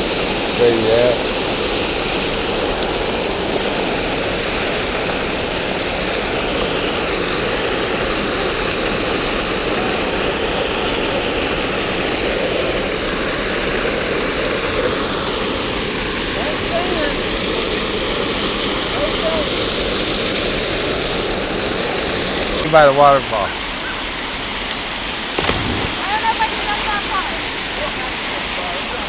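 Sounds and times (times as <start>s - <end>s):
waterfall rushing roar: 0.0s - 29.0s.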